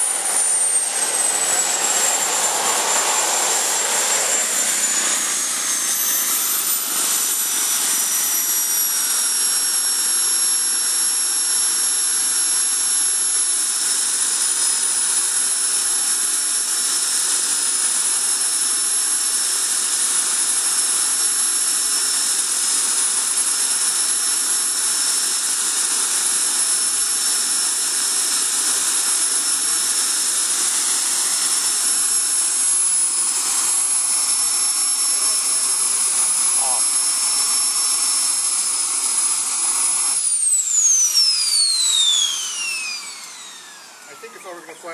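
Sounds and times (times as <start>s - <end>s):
turbine whine: 0.0s - 44.9s.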